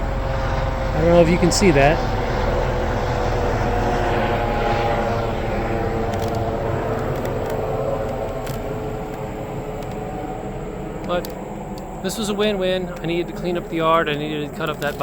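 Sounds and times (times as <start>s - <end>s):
helicopter flying over: 0.0s - 15.0s.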